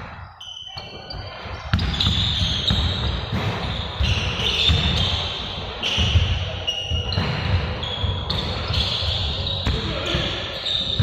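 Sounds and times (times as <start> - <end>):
high-pitched shoe squeaks: 0.4 - 11.0
basketballs bouncing on court: 0.8 - 11.0.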